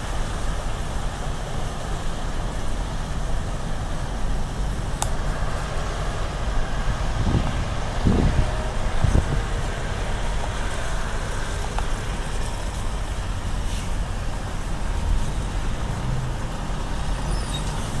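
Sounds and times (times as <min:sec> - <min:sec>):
truck diesel engines rumbling: 0:00.0 - 0:18.0.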